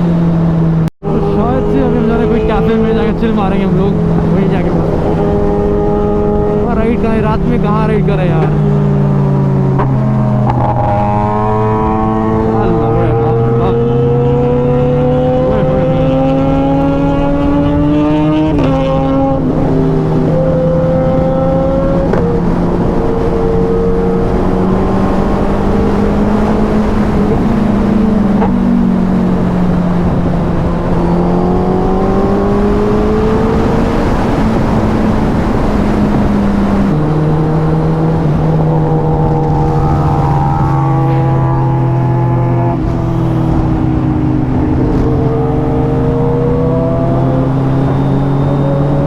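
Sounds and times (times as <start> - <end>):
steady rush of noise: 0.0 - 14.1, 19.3 - 49.0
motorcycle engine running: 0.0 - 49.0.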